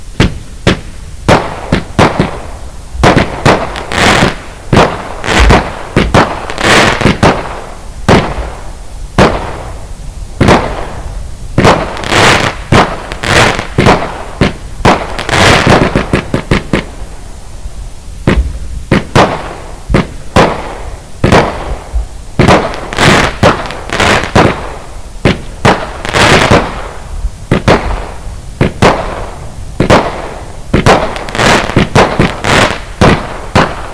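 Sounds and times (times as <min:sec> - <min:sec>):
firework bangs: 0:00.0 - 0:33.9.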